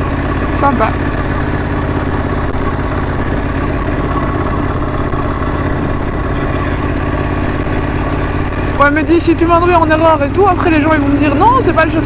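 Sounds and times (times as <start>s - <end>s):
motorcycle engine running at low speed: 0.0s - 12.0s.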